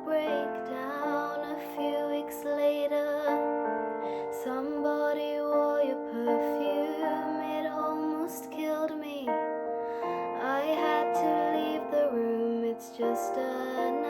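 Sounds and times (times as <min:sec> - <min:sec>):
piano and keyboard chords: 0:00.0 - 0:14.0
woman singing pop ballad: 0:00.0 - 0:14.0.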